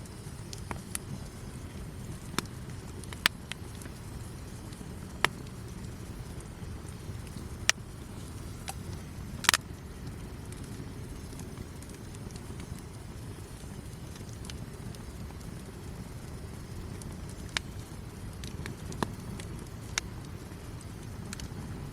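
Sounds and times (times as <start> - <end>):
campfire burning: 0.0 - 21.9
fire crackling pops: 0.0 - 21.9.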